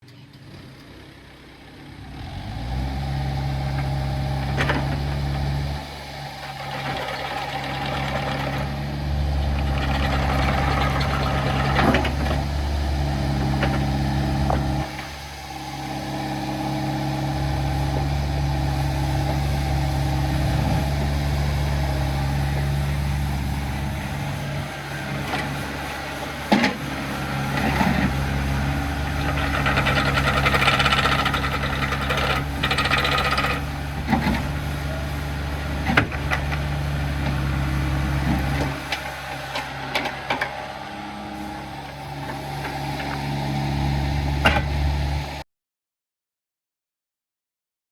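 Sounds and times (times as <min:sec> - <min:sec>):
excavator diesel engine running: 0:00.1 - 0:45.4.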